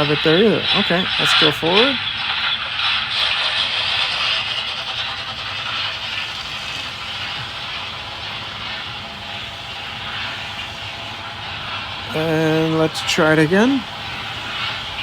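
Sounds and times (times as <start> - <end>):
model locomotives running on track: 0.0 - 15.0.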